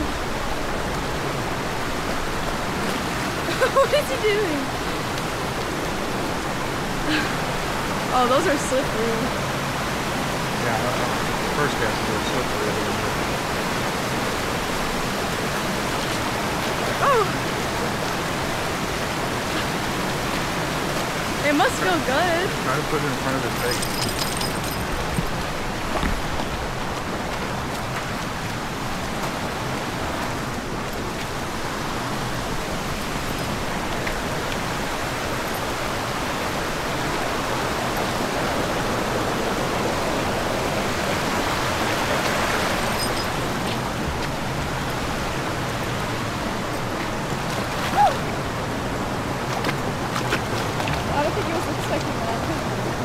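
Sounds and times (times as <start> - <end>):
creek water rushing over rocks: 0.0 - 53.0.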